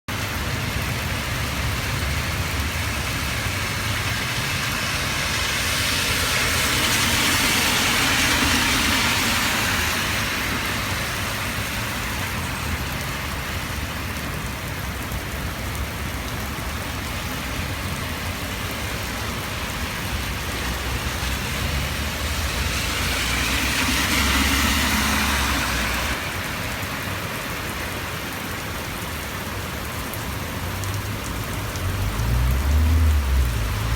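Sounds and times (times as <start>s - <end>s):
heavy rain: 0.1s - 33.9s
vehicles passing on wet road: 0.1s - 33.9s.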